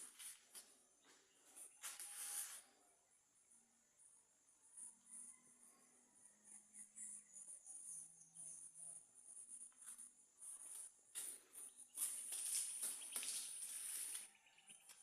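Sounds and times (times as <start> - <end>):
crickets chirping: 0.3 - 15.0.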